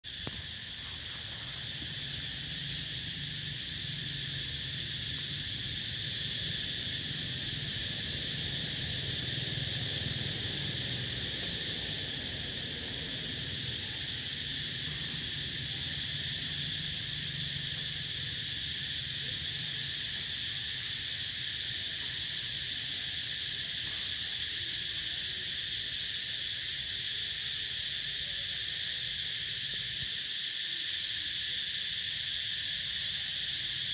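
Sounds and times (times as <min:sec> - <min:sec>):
insects high-pitched drone: 0:00.0 - 0:33.9.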